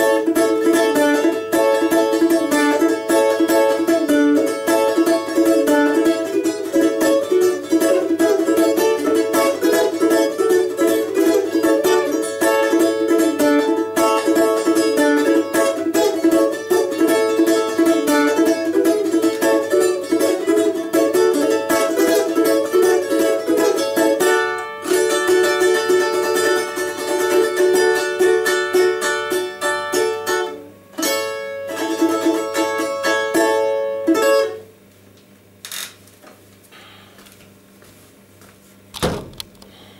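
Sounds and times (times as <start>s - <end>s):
balalaika strumming: 0.0s - 34.7s.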